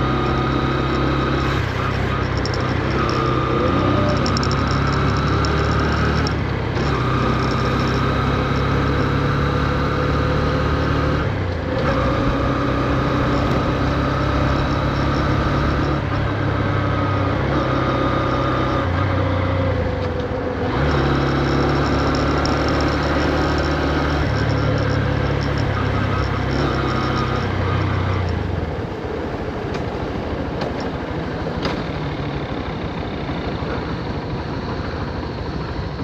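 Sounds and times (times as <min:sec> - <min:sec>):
motorcycle engine at low revs: 0:00.0 - 0:36.0
wind and road noise: 0:00.0 - 0:36.0.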